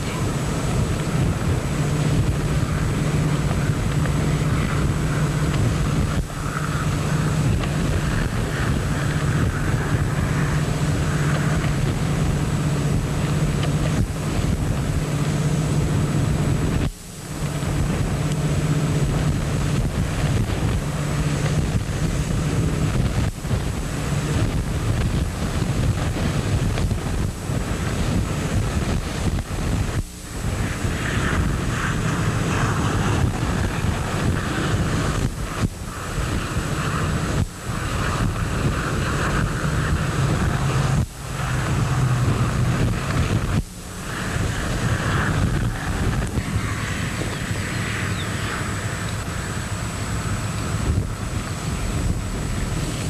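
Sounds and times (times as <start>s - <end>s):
low steady hum: 0.0s - 53.0s
wind on microphone: 0.0s - 53.0s.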